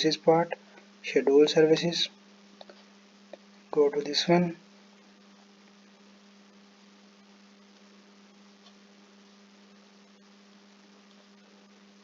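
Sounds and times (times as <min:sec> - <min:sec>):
faint electrical hum: 0:00.0 - 0:12.0
low hiss: 0:00.0 - 0:12.0.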